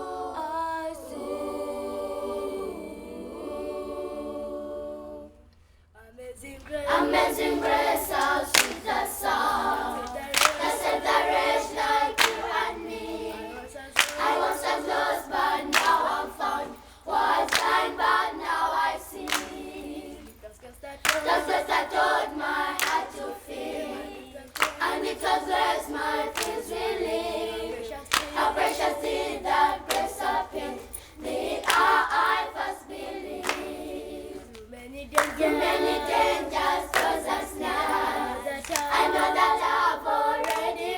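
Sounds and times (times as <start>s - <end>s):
children's choir singing: 0.0s - 5.6s, 6.4s - 40.9s
hand claps: 6.6s - 40.9s.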